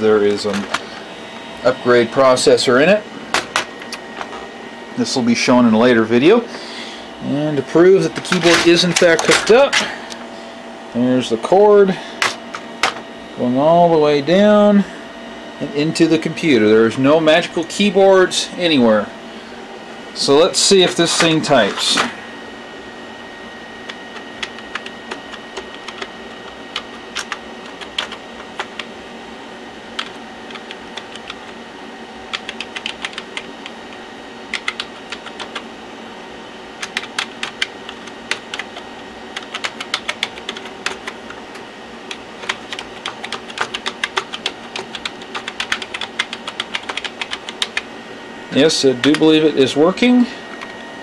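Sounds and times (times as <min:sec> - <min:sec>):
steady background hum: 0:00.0 - 0:51.0.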